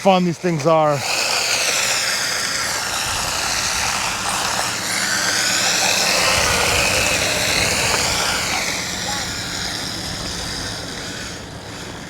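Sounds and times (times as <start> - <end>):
rc car motor whining: 0.0 - 12.0
small tyres hissing on pavement: 0.0 - 12.0.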